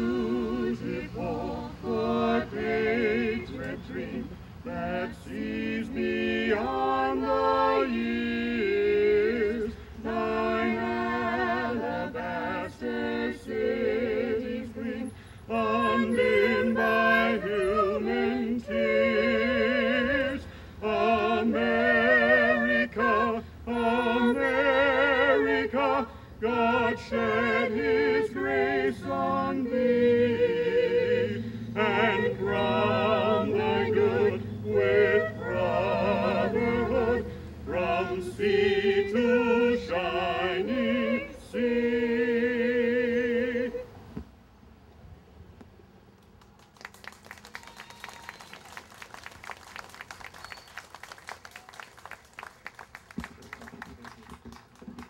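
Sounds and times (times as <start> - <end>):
vocal group singing unaccompanied: 0.0 - 44.2.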